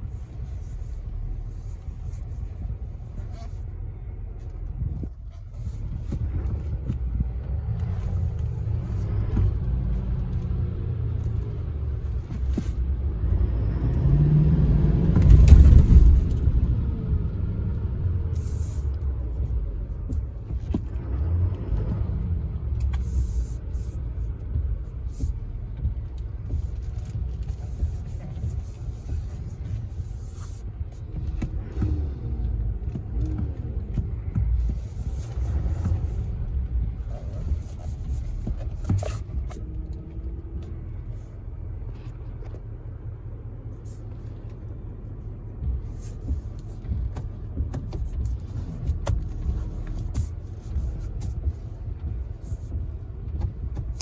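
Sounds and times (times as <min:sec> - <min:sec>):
motor vehicle rumble: 0:00.0 - 0:54.0.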